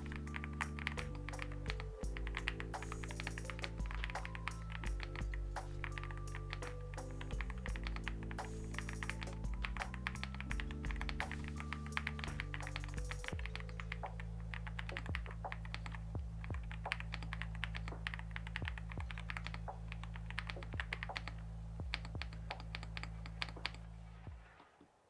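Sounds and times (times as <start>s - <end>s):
mechanical keyboard typing: 0.0s - 23.8s.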